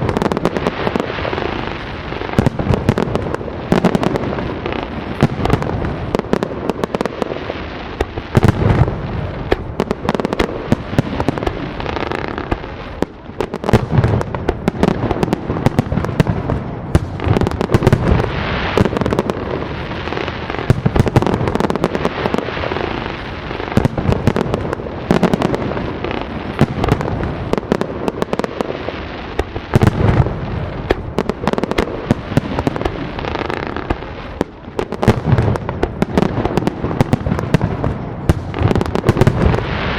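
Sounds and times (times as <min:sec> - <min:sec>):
deep fireworks booms: 0:00.0 - 0:39.9
fireworks crackling and popping: 0:00.0 - 0:39.9.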